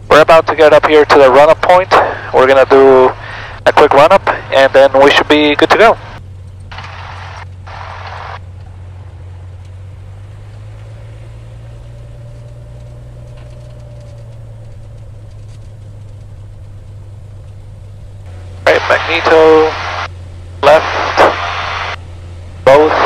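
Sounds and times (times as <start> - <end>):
airplane engine droning: 0.0 - 23.0.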